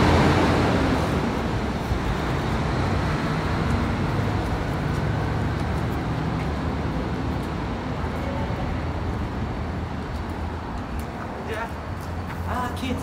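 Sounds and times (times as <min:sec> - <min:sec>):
heavy truck rumbling: 0:00.0 - 0:12.5
traffic moving: 0:00.0 - 0:13.0.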